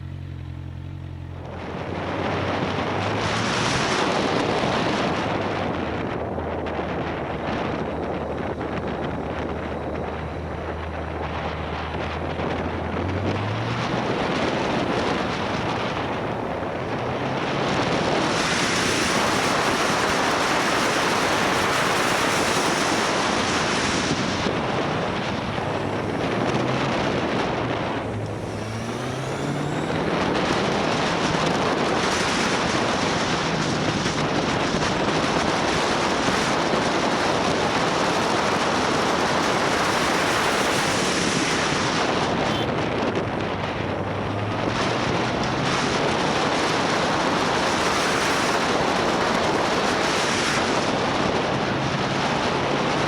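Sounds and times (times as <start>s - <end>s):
motorcycle engine revving: 0.0s - 53.0s
wind noise on microphone: 1.2s - 53.0s.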